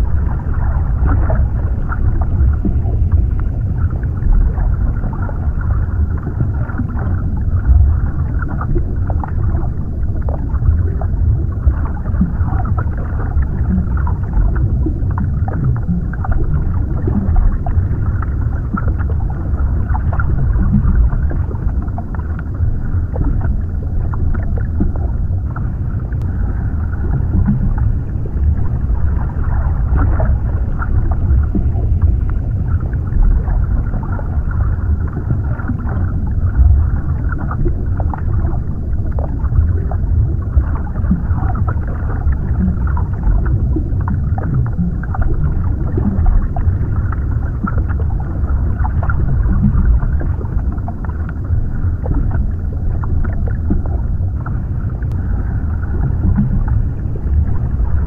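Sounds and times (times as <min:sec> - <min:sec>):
muffled underwater rumble: 0:00.0 - 0:58.0.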